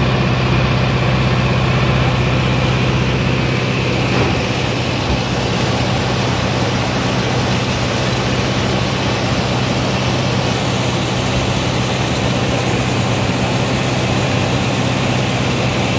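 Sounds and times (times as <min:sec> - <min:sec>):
corn picker machinery rushing: 0:00.0 - 0:15.9
tractor engine drone: 0:00.0 - 0:15.9.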